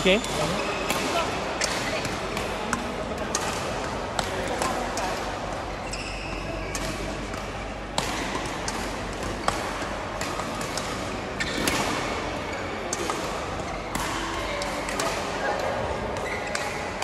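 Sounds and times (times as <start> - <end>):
racket hitting shuttlecock: 0.4 - 5.6, 6.3 - 17.0.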